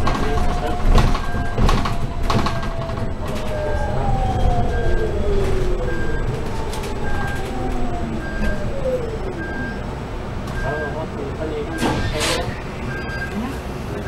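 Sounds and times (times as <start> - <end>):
low road rumble: 0.0 - 14.0.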